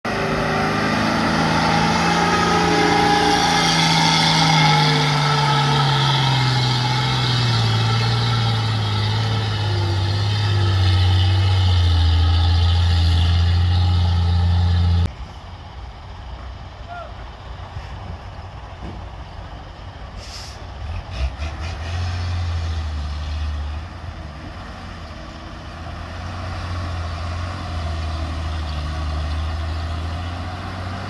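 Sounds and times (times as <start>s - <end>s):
diesel truck engine driving past: 0.1s - 31.0s.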